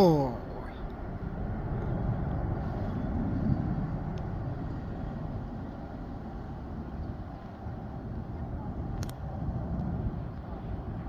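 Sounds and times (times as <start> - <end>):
jet airliner engines rumbling: 0.0 - 11.0.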